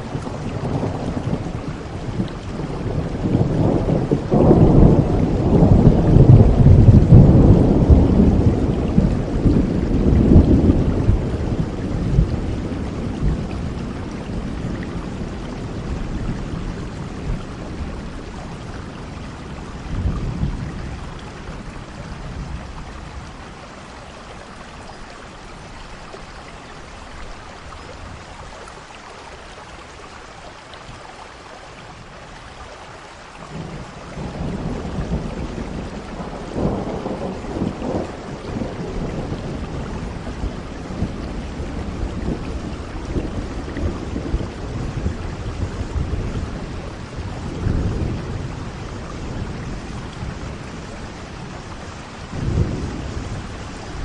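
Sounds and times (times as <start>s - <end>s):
rolling thunder: 0.0s - 23.5s, 33.5s - 54.0s
steady rain: 0.0s - 54.0s.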